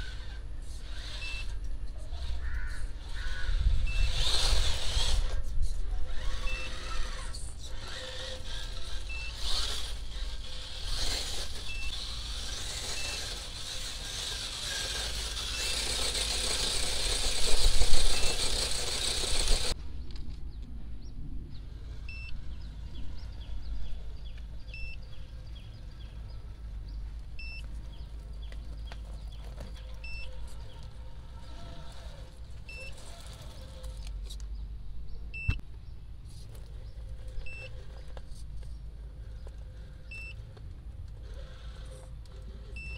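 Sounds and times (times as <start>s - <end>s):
electric motor and gears running: 0.0s - 19.8s, 21.5s - 34.6s, 36.3s - 42.9s.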